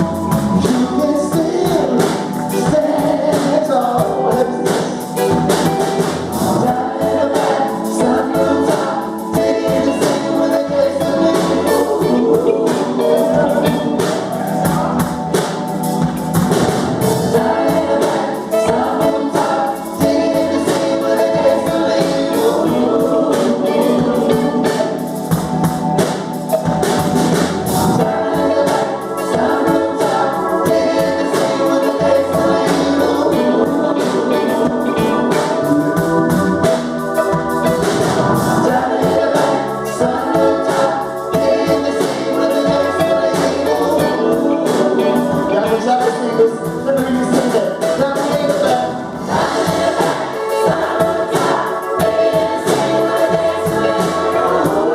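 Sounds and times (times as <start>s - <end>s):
gospel choir singing with band: 0.0s - 54.9s.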